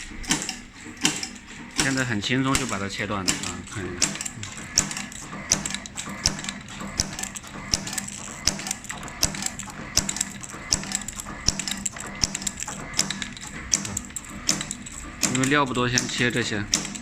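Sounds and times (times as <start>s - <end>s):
steady motor hum: 0.0s - 17.0s
cutting blade clacking: 0.2s - 17.0s.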